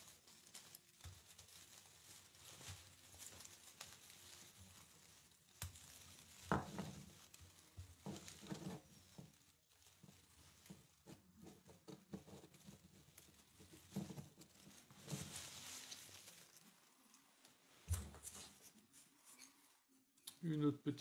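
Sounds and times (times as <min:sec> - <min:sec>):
rustling and crinkling: 0:00.0 - 0:20.2.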